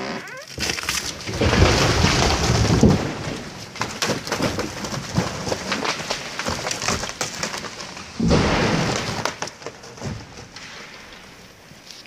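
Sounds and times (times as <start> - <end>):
tree limbs snapping: 0.0 - 11.3
heavy tree crash with rumble: 0.5 - 11.4.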